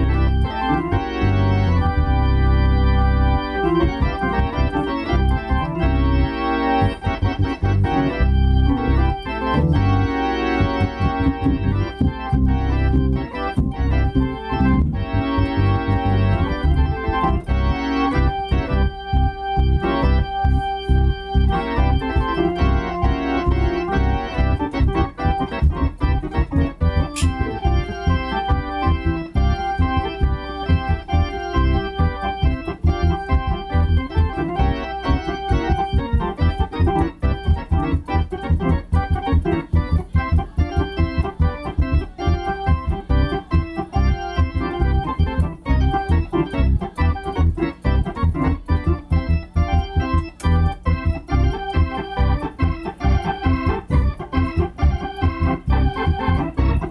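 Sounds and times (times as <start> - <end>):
organ playing chords and melody: 0.0 - 56.9.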